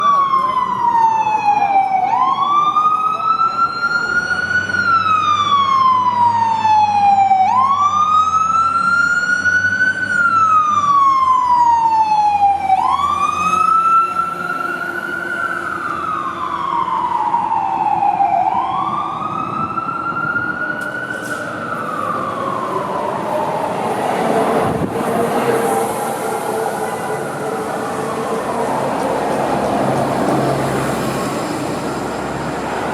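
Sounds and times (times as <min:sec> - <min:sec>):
fire engine siren wailing: 0:00.0 - 0:32.9
road noise: 0:00.0 - 0:32.9.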